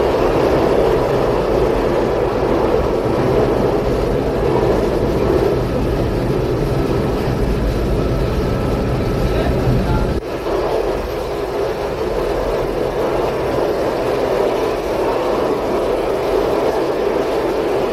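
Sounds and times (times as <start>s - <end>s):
train wheels rumbling on track: 0.0s - 17.9s.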